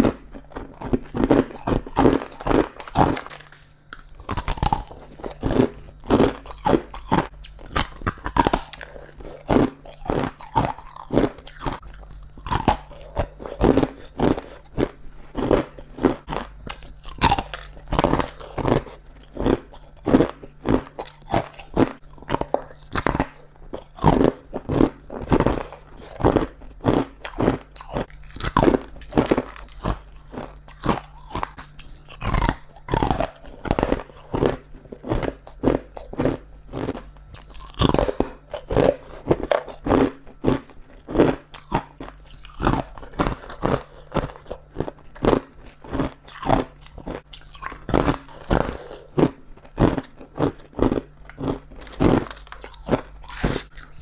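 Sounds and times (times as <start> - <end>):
faint low hum: 0.0 - 54.0
person crunching ice: 0.0 - 54.0.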